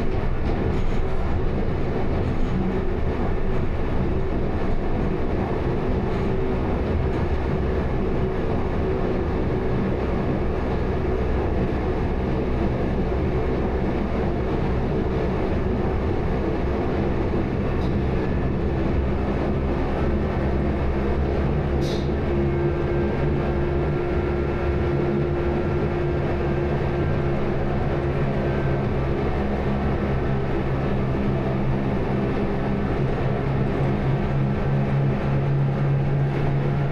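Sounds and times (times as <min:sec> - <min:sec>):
train rumbling: 0:00.0 - 0:36.9.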